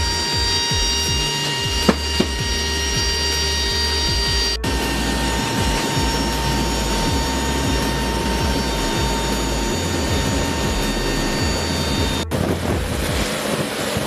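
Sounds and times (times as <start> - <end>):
turboprop engines droning: 0.0 - 14.0.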